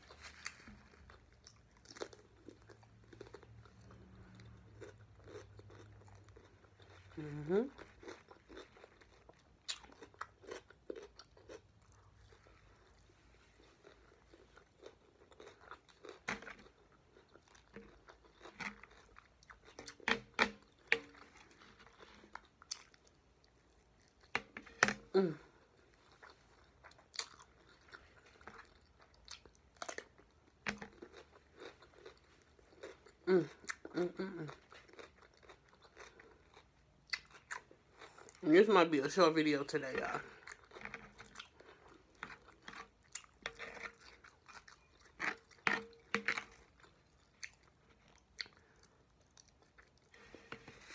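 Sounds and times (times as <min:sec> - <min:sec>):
wet chewing: 0:00.0 - 0:50.9.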